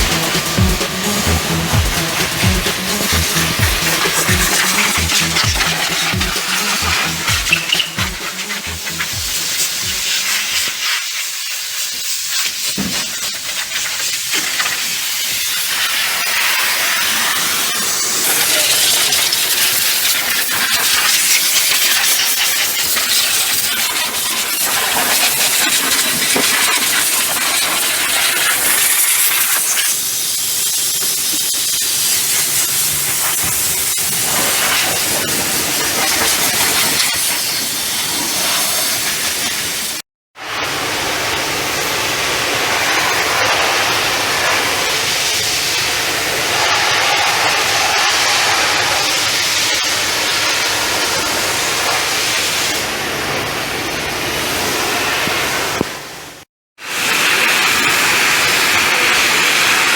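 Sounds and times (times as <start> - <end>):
high-pressure water spray hissing: 0.0 - 56.1, 56.8 - 59.9.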